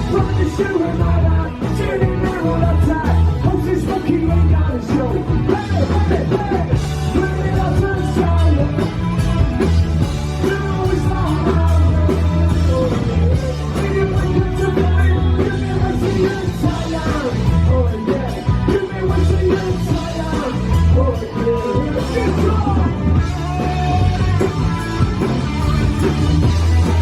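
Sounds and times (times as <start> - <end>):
live rock band playing: 0.0 - 27.0
person singing: 0.0 - 27.0.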